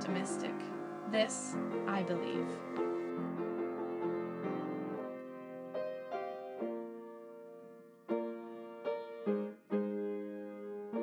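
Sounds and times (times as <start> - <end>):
slow solo piano: 0.6 - 11.0.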